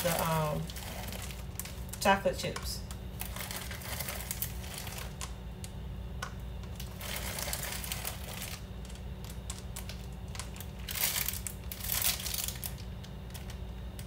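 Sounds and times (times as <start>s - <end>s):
plastic bag crinkling: 0.0s - 5.7s, 6.6s - 14.0s
steady low hum: 0.0s - 14.0s.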